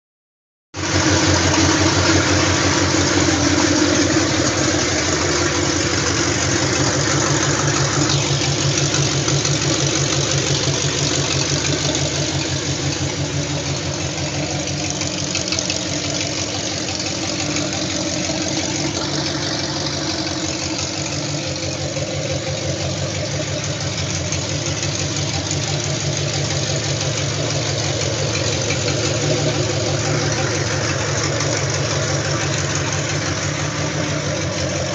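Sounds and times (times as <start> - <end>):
vee eight engine idling: 0.8 - 34.9.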